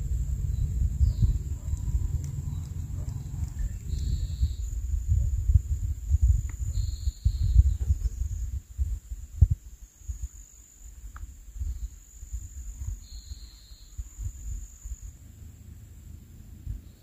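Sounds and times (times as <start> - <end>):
insects buzzing: 0.0 - 17.0
wind gusts on microphone: 0.0 - 17.0.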